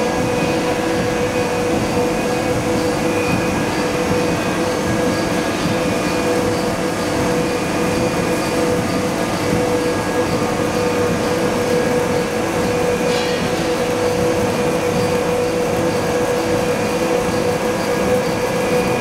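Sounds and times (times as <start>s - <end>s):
constant machine hum: 0.0s - 19.0s
rolling mill machine noise: 0.0s - 19.0s.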